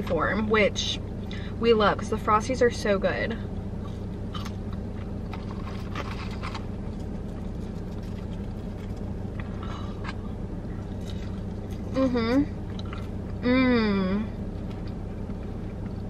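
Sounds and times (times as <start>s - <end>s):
car idling hum: 0.0s - 16.0s.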